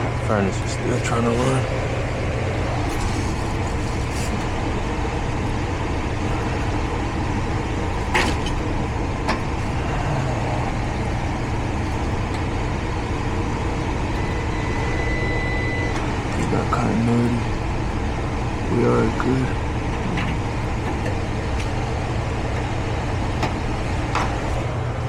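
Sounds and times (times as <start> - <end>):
gas furnace motor hum: 0.0 - 25.0.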